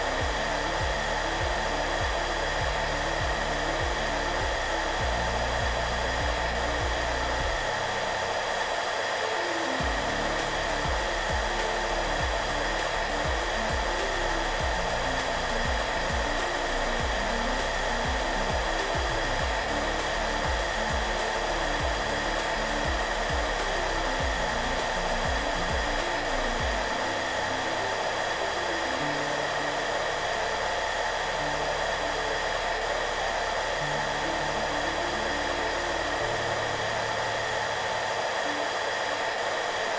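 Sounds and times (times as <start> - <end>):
hair dryer running: 0.0 - 39.9
soft background music: 0.0 - 39.9.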